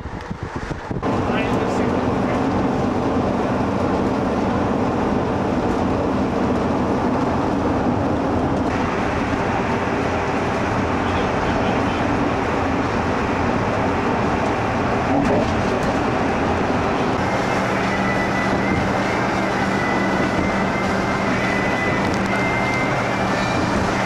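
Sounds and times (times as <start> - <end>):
vehicle engine rumbling: 0.0 - 24.0
high whine: 0.9 - 24.0.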